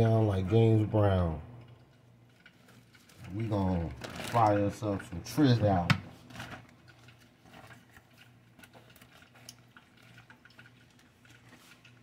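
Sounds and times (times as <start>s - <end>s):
plastic bag clicks and rustles: 2.3s - 12.0s.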